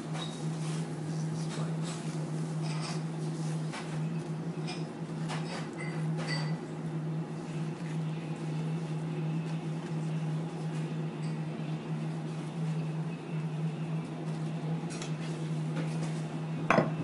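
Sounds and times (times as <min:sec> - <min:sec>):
low electric machine hum: 0:00.0 - 0:17.0.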